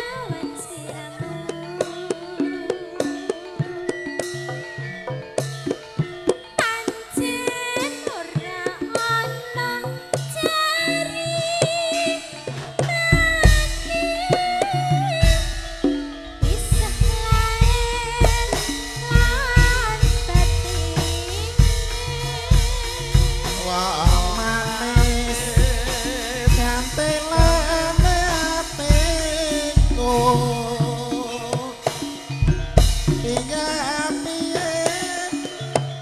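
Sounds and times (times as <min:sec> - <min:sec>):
woman singing into a microphone: 0:00.0 - 0:04.6, 0:06.5 - 0:32.3
band with drum beat: 0:00.0 - 0:36.0.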